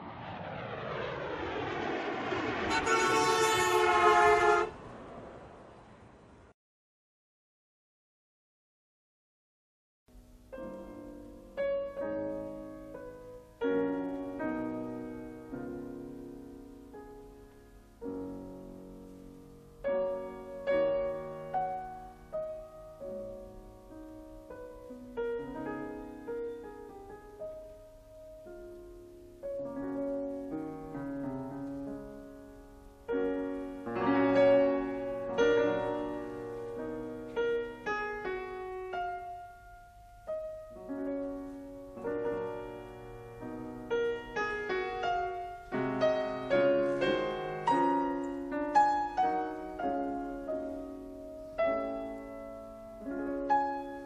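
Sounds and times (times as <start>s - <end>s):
solo piano music: 10.1s - 54.0s.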